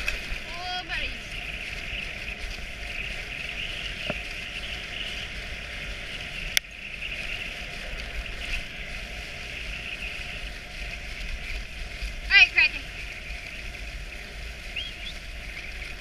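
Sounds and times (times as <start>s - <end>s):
low rumble: 0.0s - 16.0s
sled runners hissing on snow: 0.0s - 16.0s.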